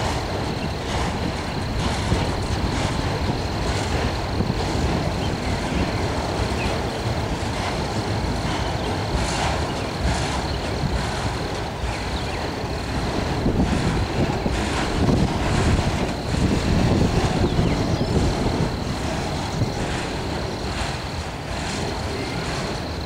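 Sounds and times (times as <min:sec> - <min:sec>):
freight cars rumbling on rails: 0:00.0 - 0:23.0.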